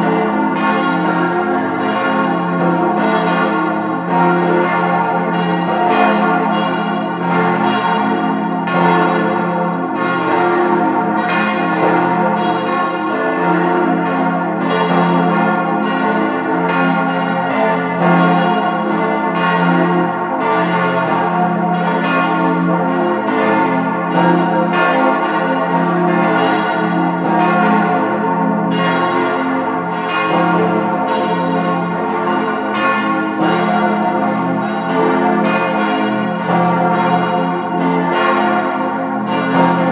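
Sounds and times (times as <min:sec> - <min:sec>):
large church bells ringing: 0:00.0 - 0:39.9.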